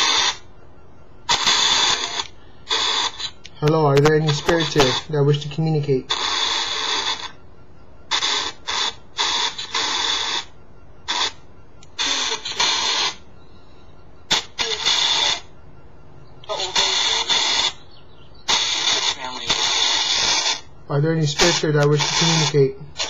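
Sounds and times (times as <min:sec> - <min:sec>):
bursts of static hiss: 0:00.0 - 0:15.6, 0:16.4 - 0:23.0.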